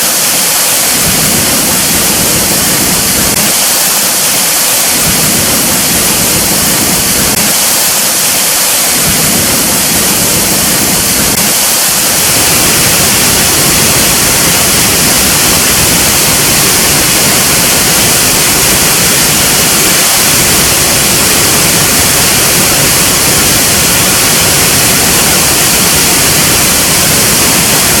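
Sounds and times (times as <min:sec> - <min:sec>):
rush of falling water: 0:00.0 - 0:28.0.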